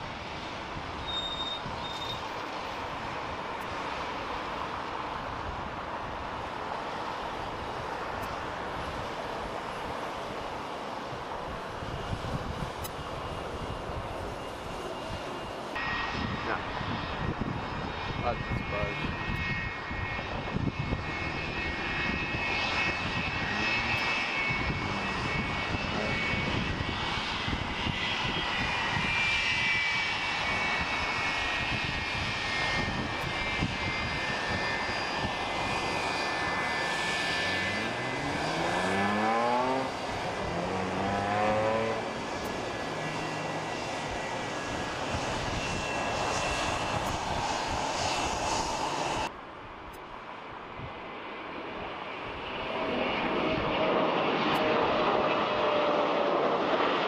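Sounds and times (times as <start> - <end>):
airliner engines whining: 0.0 - 57.0.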